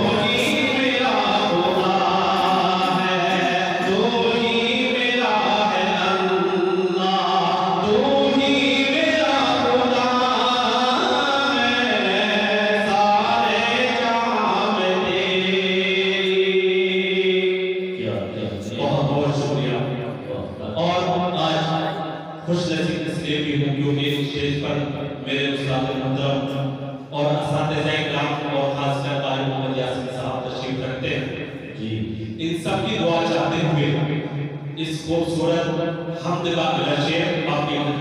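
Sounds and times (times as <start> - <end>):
man chanting unaccompanied: 0.0 - 38.0.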